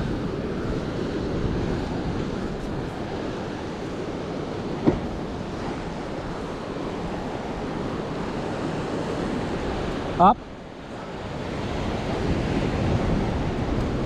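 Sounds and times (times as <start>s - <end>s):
ocean waves surging on rocks: 0.0s - 14.0s
wind buffeting microphone: 0.0s - 14.0s.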